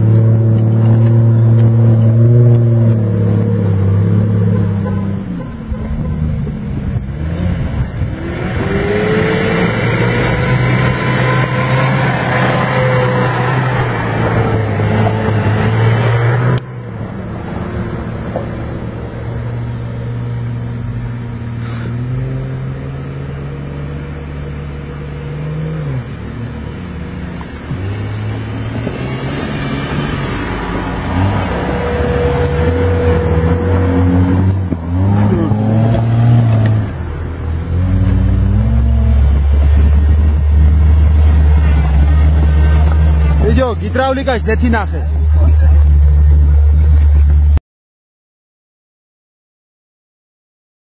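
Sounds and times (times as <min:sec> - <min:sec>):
engine passing close: 0:00.0 - 0:47.6
off-road vehicle engines revving: 0:00.0 - 0:47.6.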